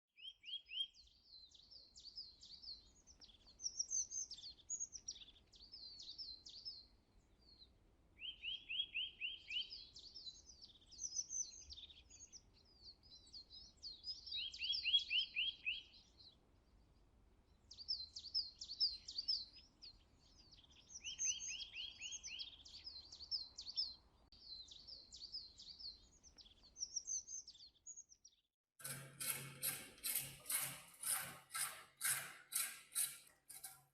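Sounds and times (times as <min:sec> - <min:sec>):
birdsong chirps and trills: 0:00.2 - 0:33.9.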